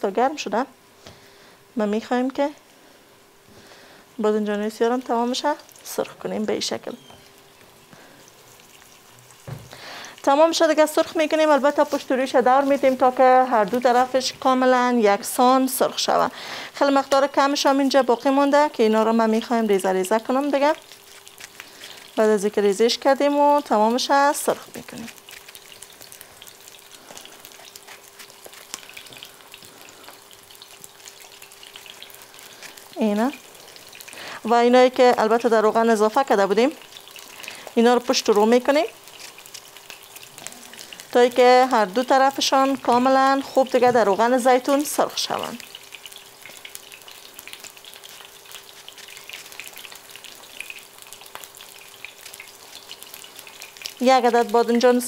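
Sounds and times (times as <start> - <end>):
eggplant sizzling in oil: 0.0 - 55.0.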